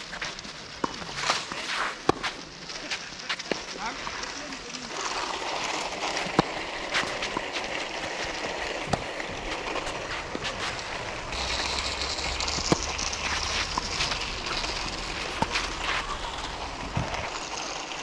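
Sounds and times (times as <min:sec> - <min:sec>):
outdoor rushing noise: 0:00.0 - 0:18.0.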